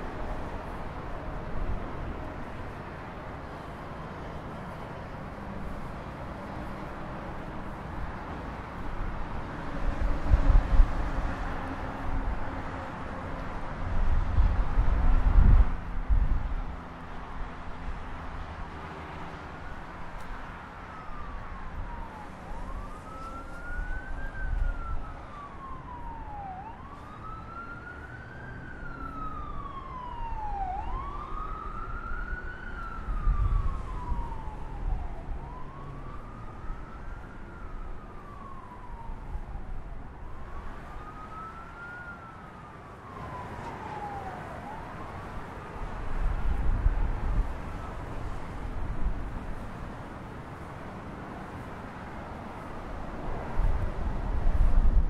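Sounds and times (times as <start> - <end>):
emergency siren wailing: 0.0 - 55.0
heavy highway traffic rumble: 0.0 - 55.0.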